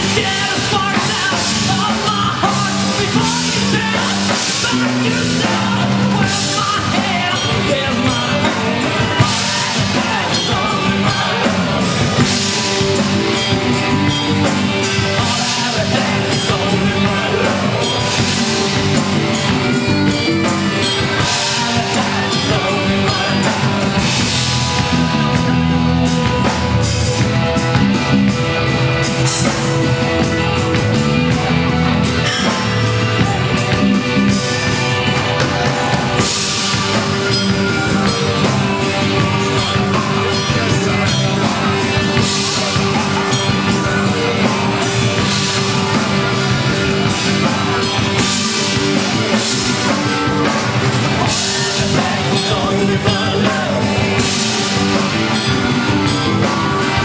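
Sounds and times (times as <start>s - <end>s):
person singing: 0.0s - 27.2s, 29.4s - 57.0s
bass guitar: 0.0s - 57.0s
drum kit: 0.0s - 57.0s
electric guitars: 0.0s - 57.0s.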